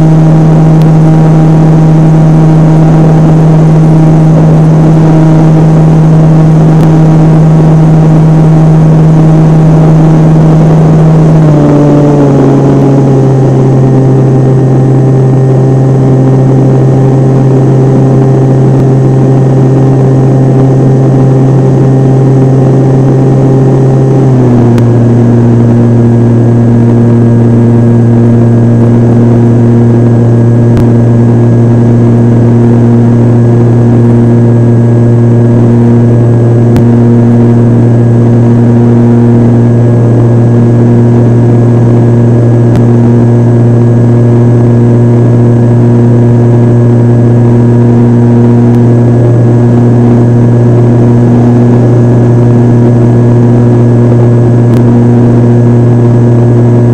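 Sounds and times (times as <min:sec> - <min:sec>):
model airplane motor drone: 0:00.0 - 0:56.9.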